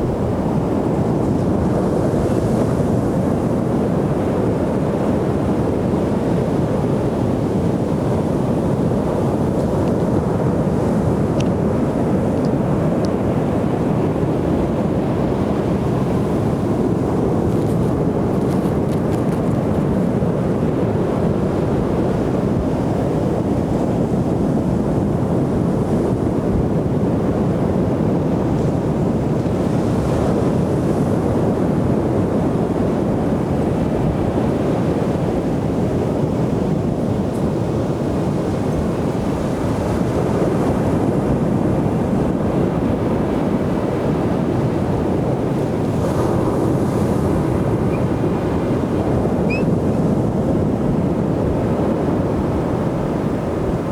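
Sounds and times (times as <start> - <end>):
ocean waves washing on beach: 0.0 - 53.9
wind rumbling on microphone: 0.0 - 53.9.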